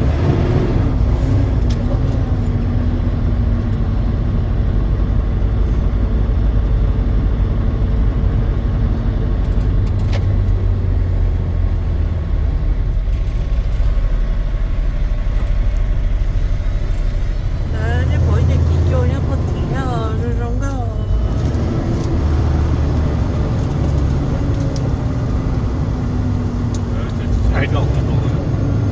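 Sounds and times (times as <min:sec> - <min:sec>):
truck engine and road noise: 0:00.0 - 0:28.9.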